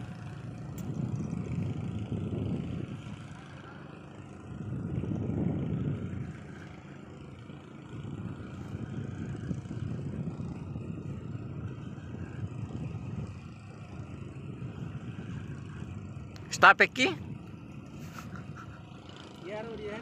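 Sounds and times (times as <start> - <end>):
boat engine rumble: 0.0 - 20.0.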